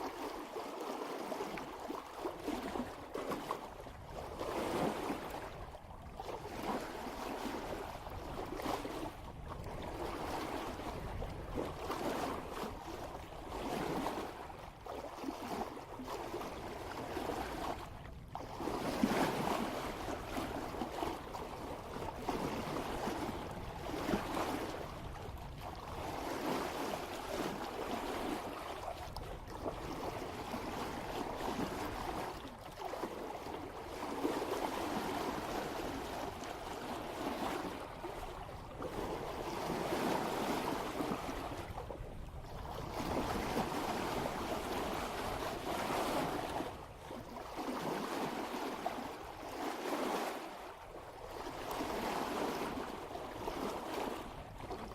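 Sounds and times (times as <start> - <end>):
water splashing along boat bow: 0.0 - 54.9.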